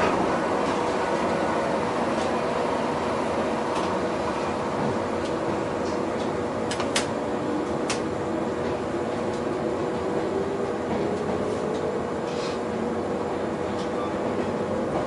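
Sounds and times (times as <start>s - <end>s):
electric train running gear hum: 0.0s - 15.0s.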